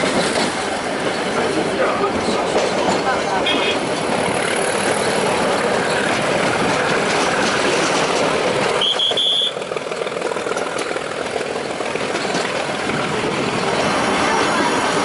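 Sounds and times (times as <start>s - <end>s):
train wheels and engine rumbling: 0.0s - 15.0s.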